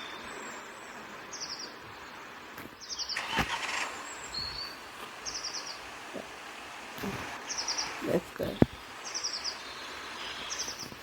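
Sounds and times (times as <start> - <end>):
small bird chirping trills: 0.0 - 11.0.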